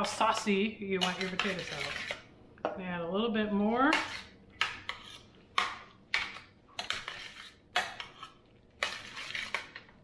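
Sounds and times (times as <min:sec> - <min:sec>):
spoon scraping a metal pan: 0:00.0 - 0:02.3, 0:03.9 - 0:09.9.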